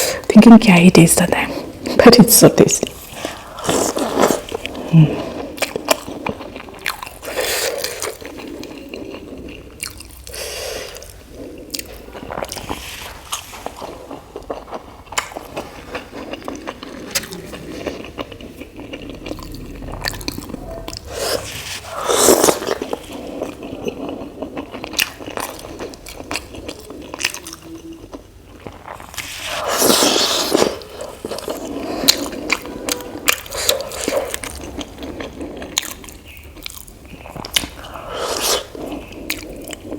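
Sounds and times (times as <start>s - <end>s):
chewing with wet mouth noises: 2.8s - 39.9s.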